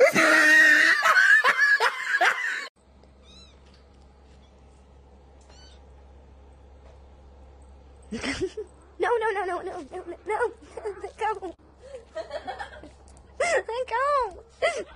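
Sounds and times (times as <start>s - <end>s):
faint low hum: 2.8s - 14.9s.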